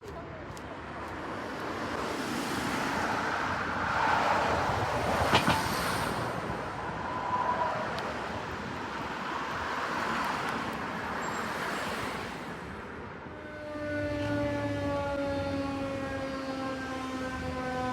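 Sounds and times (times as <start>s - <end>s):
road traffic passing: 0.0s - 17.9s.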